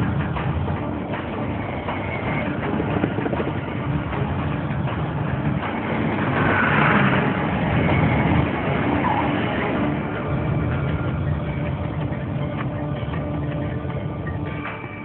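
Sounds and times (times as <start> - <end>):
vehicle engines and road noise: 0.0 - 15.0.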